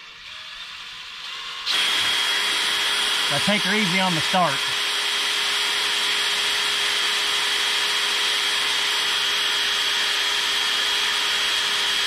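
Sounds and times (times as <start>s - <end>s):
drill bit grinding: 0.2s - 12.0s
cordless drill boring: 0.3s - 12.0s.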